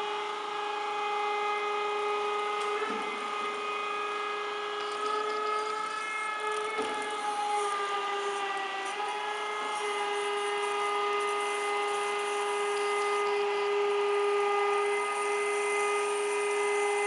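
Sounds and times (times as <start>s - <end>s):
surface grinder whine: 0.0s - 17.0s.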